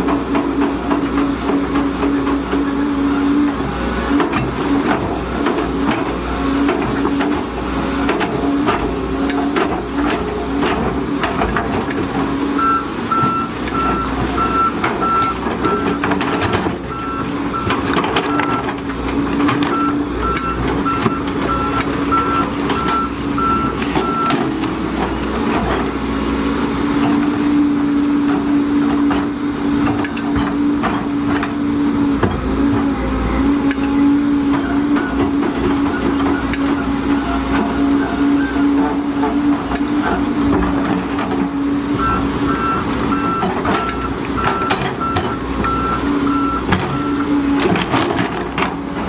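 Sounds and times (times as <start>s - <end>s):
excavator engine humming: 0.0s - 49.0s.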